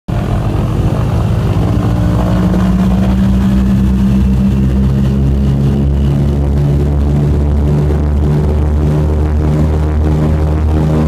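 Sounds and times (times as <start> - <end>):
piston aircraft engines running: 0.1 - 11.0.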